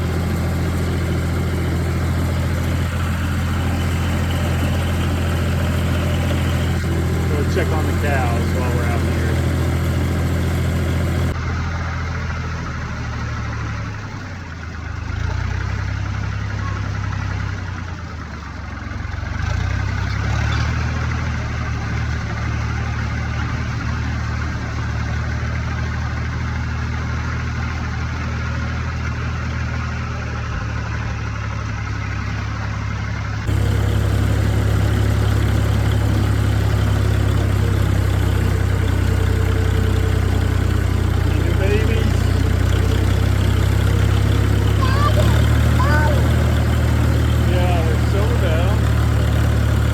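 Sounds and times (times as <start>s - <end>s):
tractor engine droning: 0.0s - 49.9s.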